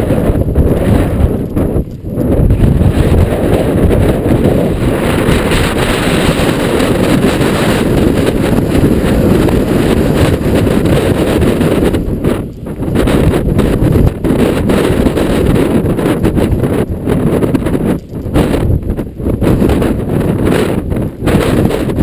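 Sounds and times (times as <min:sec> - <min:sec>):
wind buffeting the microphone: 0:00.0 - 0:22.0.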